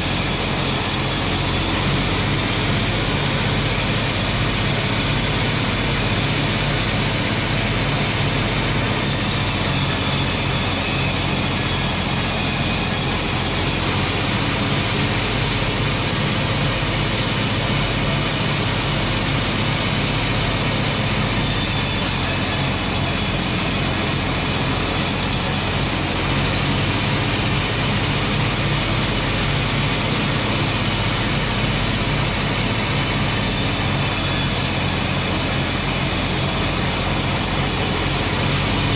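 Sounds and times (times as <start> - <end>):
large machine engine drone: 0.0 - 38.9.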